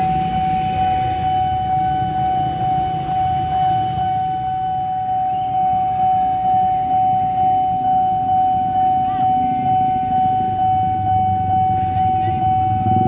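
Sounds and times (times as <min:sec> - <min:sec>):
level crossing alarm pulsing: 0:00.0 - 0:13.0
motorcycles idling: 0:00.0 - 0:13.0
traffic rumble: 0:00.0 - 0:13.0.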